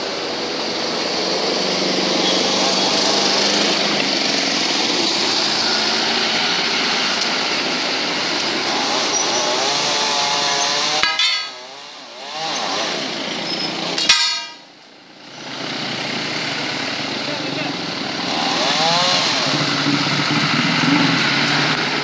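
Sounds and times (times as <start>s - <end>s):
chainsaw engine revving: 1.0s - 14.0s, 15.4s - 22.0s.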